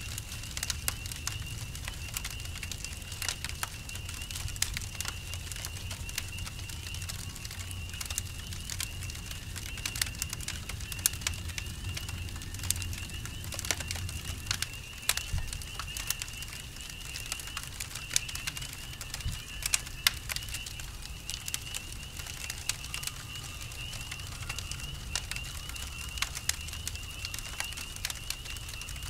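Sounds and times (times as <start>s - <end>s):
campfire crackling and popping: 0.0s - 29.0s
crickets trilling: 0.0s - 29.0s.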